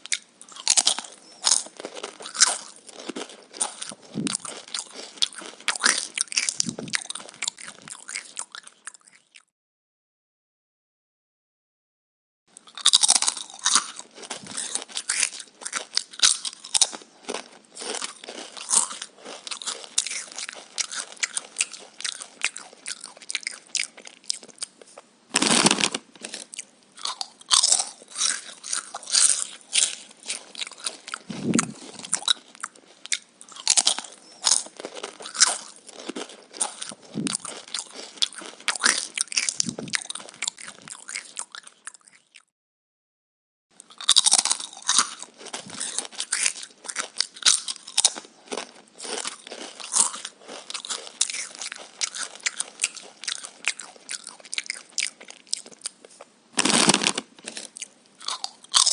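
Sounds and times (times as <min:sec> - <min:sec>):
crunching and chewing vegetables: 0:00.0 - 0:09.5, 0:12.5 - 0:42.5, 0:43.8 - 0:58.9.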